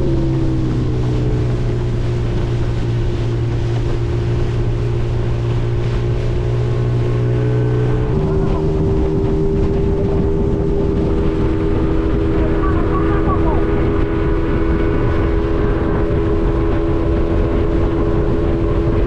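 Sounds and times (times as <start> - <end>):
outboard motor running: 0.0 - 19.0
wind on microphone: 0.0 - 19.0.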